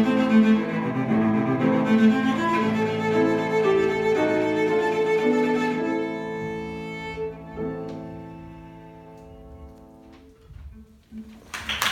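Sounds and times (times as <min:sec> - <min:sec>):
cello playing slow notes: 0:00.0 - 0:10.2.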